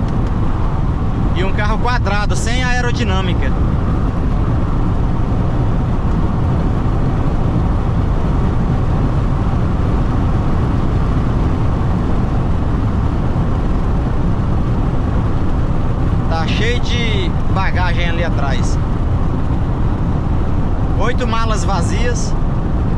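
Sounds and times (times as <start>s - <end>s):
wind and road noise in car: 0.0s - 22.9s.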